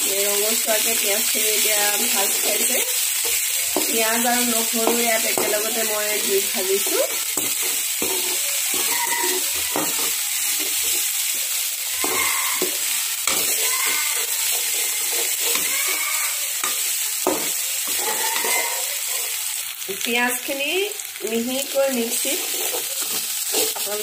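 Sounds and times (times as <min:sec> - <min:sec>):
onion sizzling in hot oil: 0:00.0 - 0:24.0
metal spatula scraping a pan: 0:00.2 - 0:19.5, 0:21.6 - 0:24.0.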